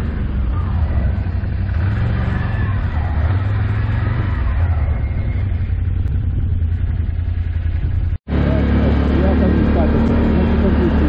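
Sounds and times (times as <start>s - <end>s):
quad engine running under load: 0.0s - 11.0s.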